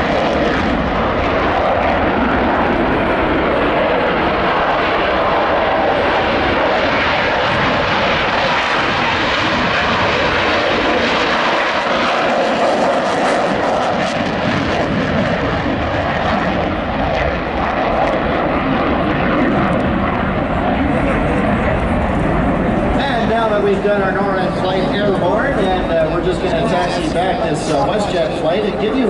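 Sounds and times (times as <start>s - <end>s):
jet engines roaring: 0.0s - 29.0s.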